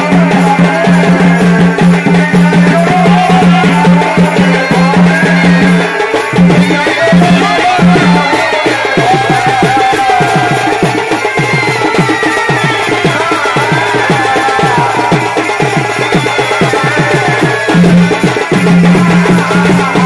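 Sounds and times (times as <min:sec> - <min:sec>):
fast dense drumming: 0:00.0 - 0:20.0.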